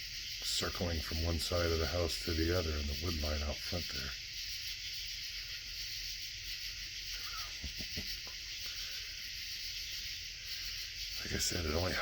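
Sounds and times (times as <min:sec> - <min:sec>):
night insect chorus: 0:00.0 - 0:12.0.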